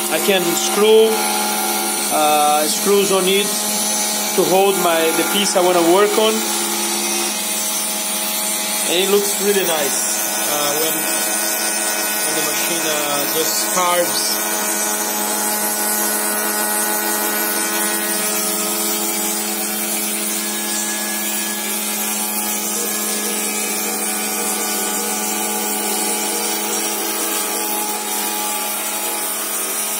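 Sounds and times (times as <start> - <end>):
hiss of wood cutting: 0.0 - 29.9
router spindle whine: 0.0 - 29.9.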